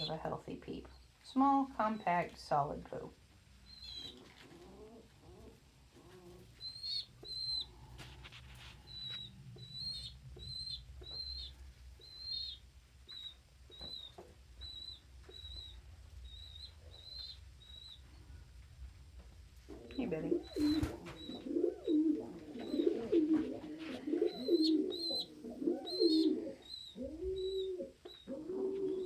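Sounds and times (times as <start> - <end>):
young pigeon peeping: 0.0 - 0.3, 3.5 - 29.0.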